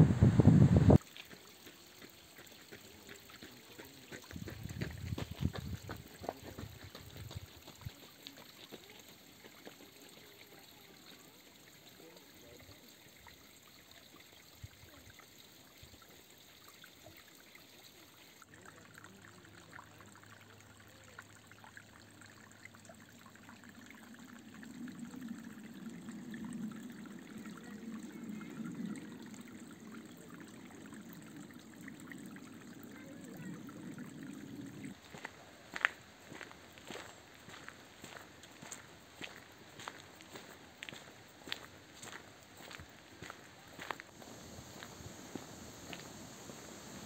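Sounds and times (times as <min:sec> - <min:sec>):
brook trickling over stones: 0:01.0 - 0:47.0.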